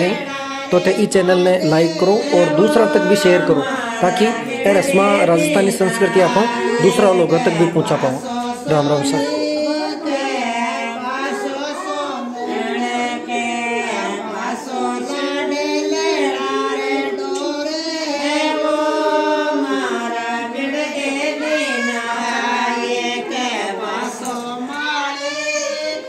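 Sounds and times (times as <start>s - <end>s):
women singing folk song: 0.0s - 26.0s.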